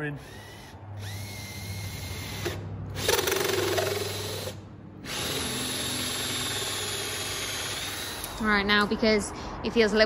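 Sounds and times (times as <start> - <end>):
cordless drill with hole saw: 0.0 - 8.6.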